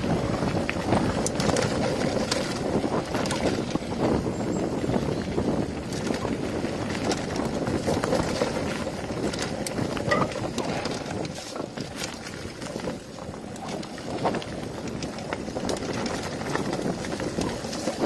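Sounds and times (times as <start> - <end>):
bike rattling and knocking: 0.0 - 18.0
bike tyre noise: 0.0 - 18.0.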